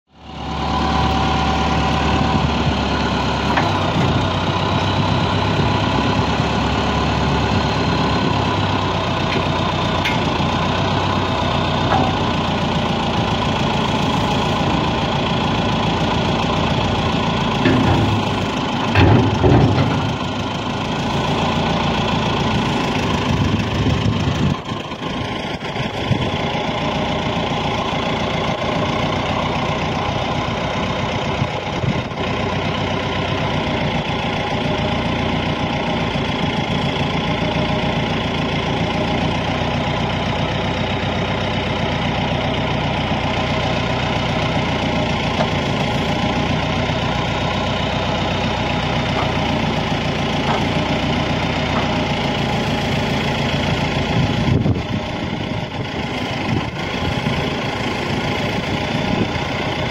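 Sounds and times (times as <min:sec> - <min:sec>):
tractor engine idling: 0:00.1 - 0:59.9.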